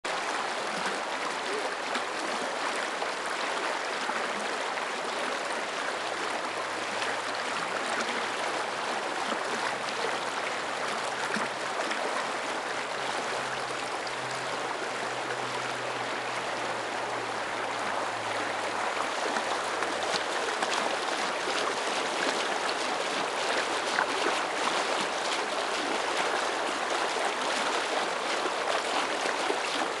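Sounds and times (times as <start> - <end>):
river rushing over rocks: 0.1 - 30.0.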